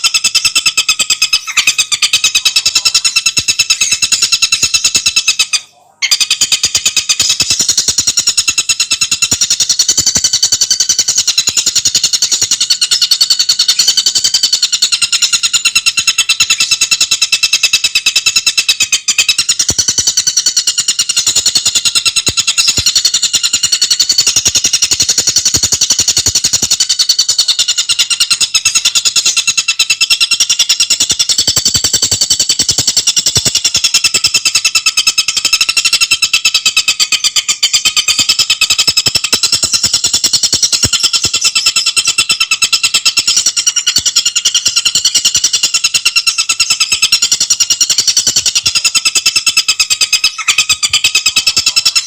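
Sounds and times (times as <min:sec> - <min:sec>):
bird chattering trill: 0:00.0 - 0:52.0.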